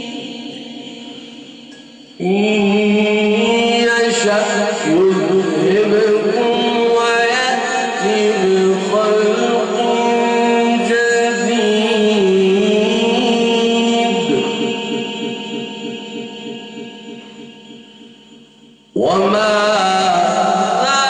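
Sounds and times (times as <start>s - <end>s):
man chanting melodically: 0.0s - 17.6s, 18.9s - 21.0s.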